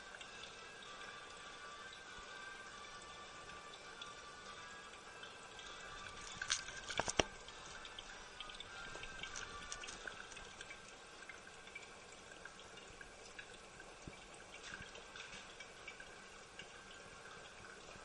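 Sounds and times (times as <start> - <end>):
small water drips: 0.0 - 18.0
water trickling into drain: 0.0 - 18.0.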